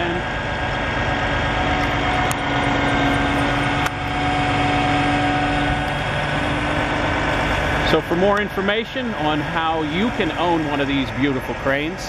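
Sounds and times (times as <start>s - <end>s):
hydraulic whine: 0.0s - 12.0s
truck diesel engine running: 0.0s - 12.0s.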